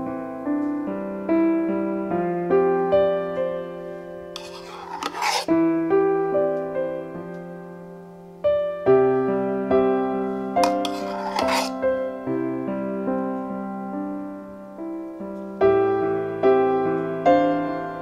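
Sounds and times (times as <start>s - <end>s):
gentle solo piano music: 0.0s - 4.4s, 5.5s - 10.9s, 11.7s - 18.0s.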